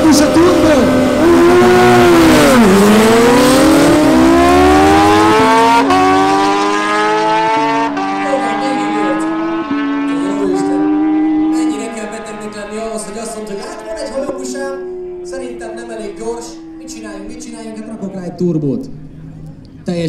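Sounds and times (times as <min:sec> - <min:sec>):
motorcycle engines at full throttle: 0:00.0 - 0:20.0.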